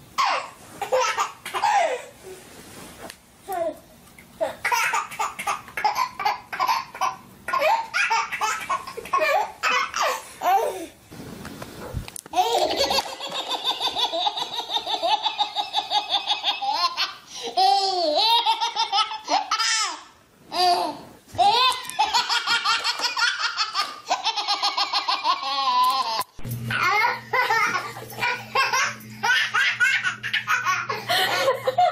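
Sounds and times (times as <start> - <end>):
baby laughing hard: 0.2 - 2.1, 4.4 - 10.8, 12.3 - 31.9.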